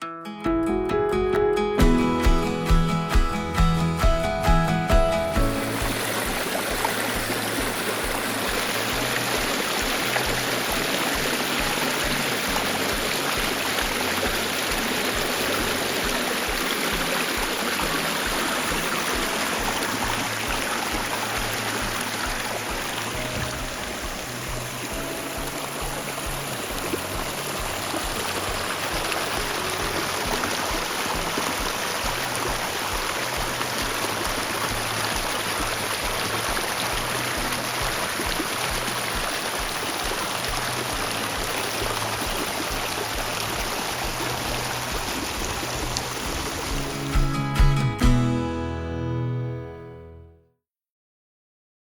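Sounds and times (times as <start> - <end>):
stream water rushing: 1.8 - 48.1.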